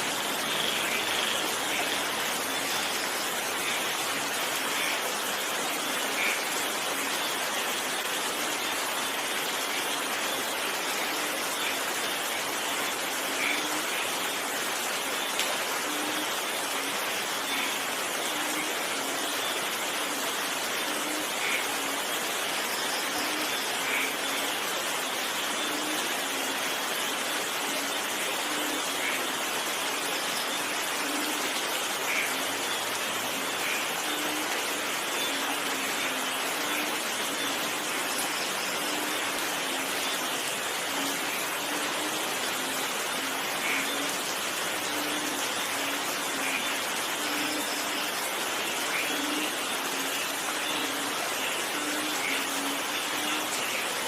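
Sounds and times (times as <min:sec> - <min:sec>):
louder raindrops: 0:00.0 - 0:54.0
steady rain: 0:00.0 - 0:54.0.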